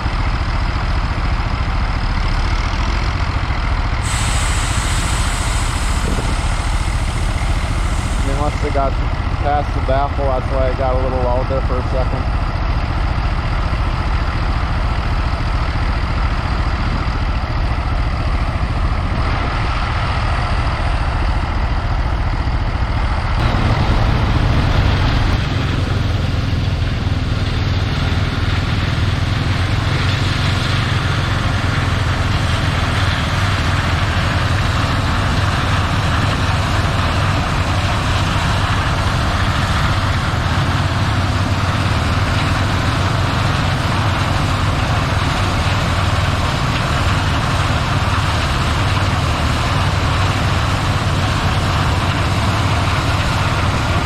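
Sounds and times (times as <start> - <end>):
farm machinery engine running: 0.0 - 54.0.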